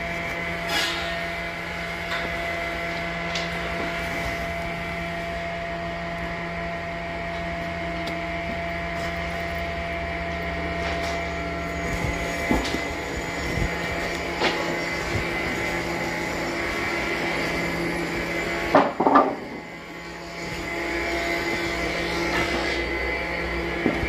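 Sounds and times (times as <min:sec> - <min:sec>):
sawmill motor hum: 0:00.0 - 0:24.0.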